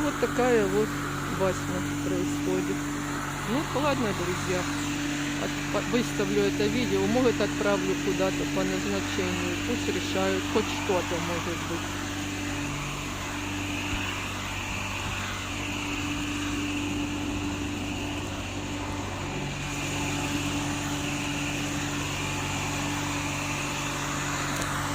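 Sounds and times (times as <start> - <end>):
motor humming: 0.0 - 24.9.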